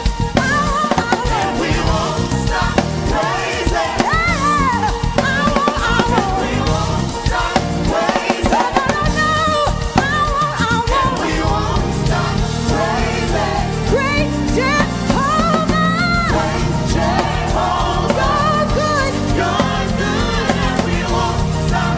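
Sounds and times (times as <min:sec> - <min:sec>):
band with drums: 0:00.0 - 0:21.9
voices singing gospel: 0:00.0 - 0:21.9.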